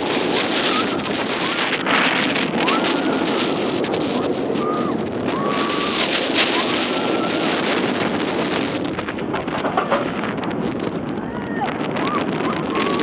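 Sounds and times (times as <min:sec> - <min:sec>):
roller coaster track rumbling: 0:00.0 - 0:13.0
wind rushing over microphone: 0:00.0 - 0:13.0.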